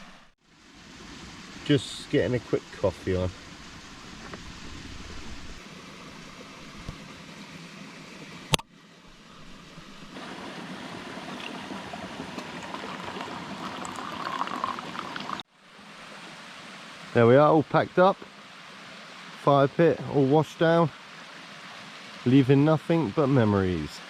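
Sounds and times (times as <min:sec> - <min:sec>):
running water of stream and waterfall: 0:00.0 - 0:24.0.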